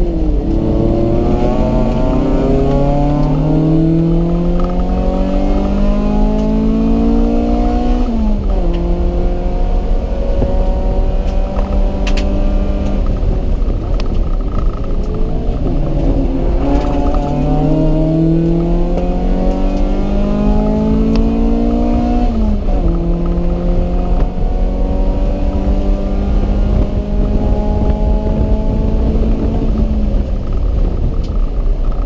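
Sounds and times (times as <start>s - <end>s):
car engine accelerating: 0.0s - 32.0s
heavy low rumble: 0.0s - 32.0s.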